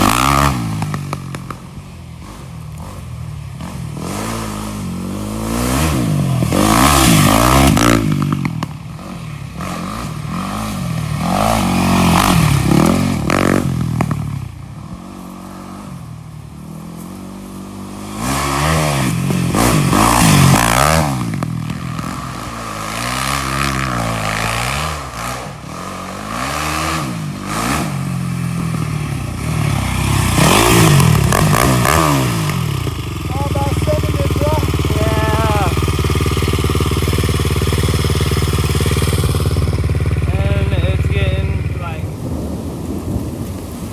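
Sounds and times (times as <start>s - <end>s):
off-road vehicle engine revving: 0.0s - 42.5s.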